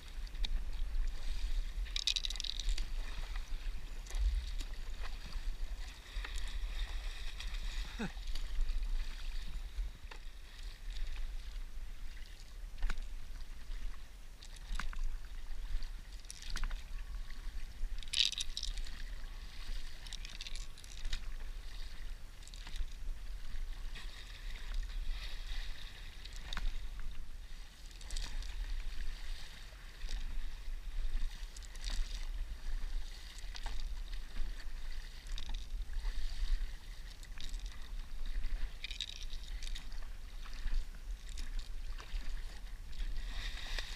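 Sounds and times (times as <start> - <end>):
paddle splashing in water: 0.0 - 43.9.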